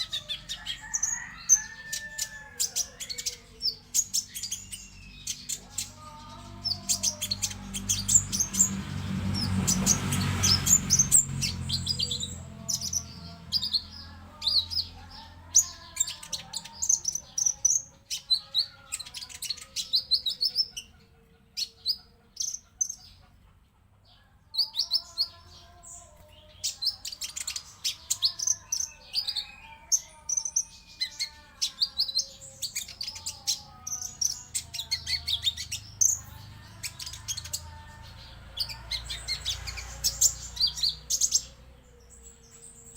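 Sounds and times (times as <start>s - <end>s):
sunbirds chirping and trilling: 0.0s - 42.9s.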